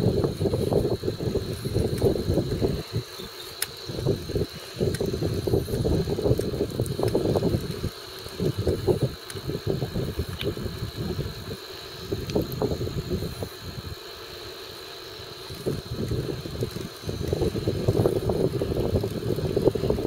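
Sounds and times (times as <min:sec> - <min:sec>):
wind rushing over microphone: 0:00.0 - 0:14.1, 0:15.4 - 0:20.0.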